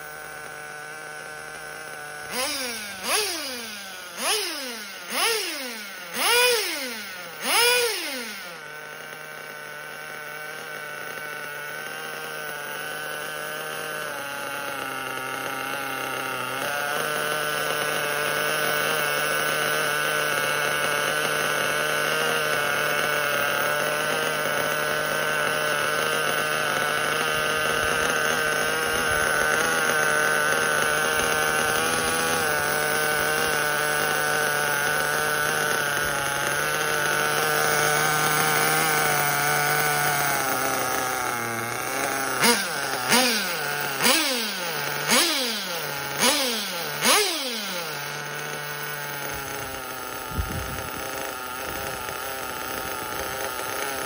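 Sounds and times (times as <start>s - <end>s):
nitro engine idling and revving: 0.0s - 54.0s.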